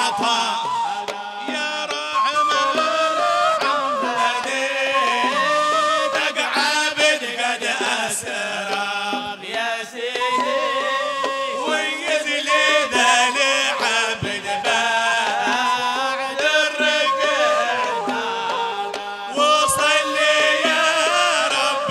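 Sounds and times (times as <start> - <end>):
hand drums beating: 0.0 - 21.9
man singing devotional song: 0.0 - 21.9.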